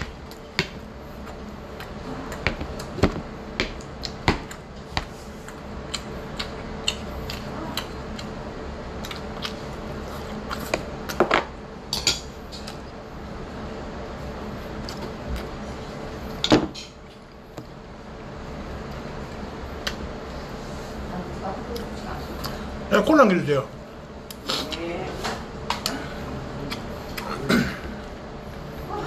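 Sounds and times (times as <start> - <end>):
faint hum: 0.0 - 29.0.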